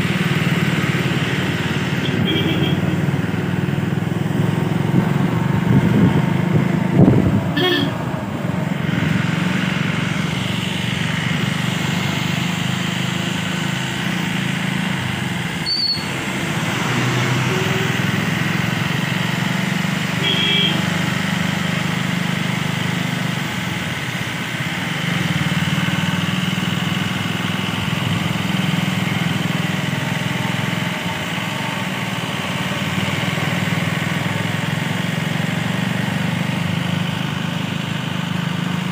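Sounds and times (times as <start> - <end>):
bus engine running: 0.0 - 38.9
road noise: 0.0 - 38.9.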